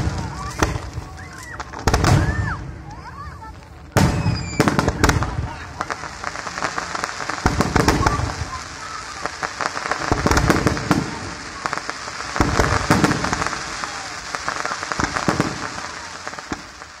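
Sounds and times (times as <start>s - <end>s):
fireworks bangs: 0.0s - 17.0s
fireworks crackling pops: 0.0s - 17.0s.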